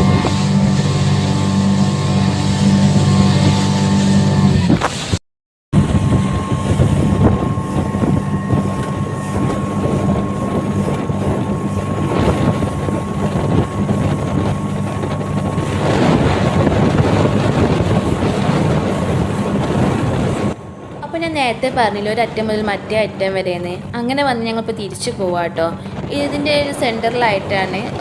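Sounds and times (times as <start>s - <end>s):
speedboat engine running: 0.0s - 5.2s, 5.8s - 28.0s
wind buffeting microphone: 0.0s - 28.0s.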